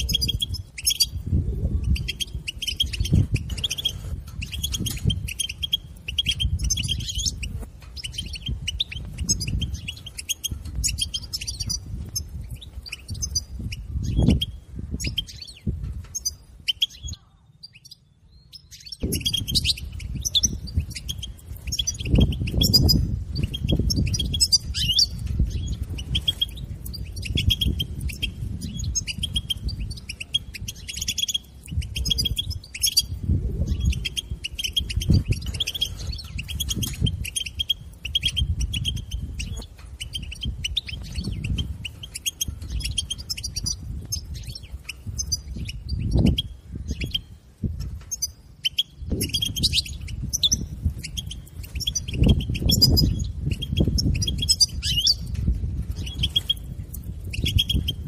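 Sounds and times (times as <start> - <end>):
finch high chirps: 0.0 - 58.0.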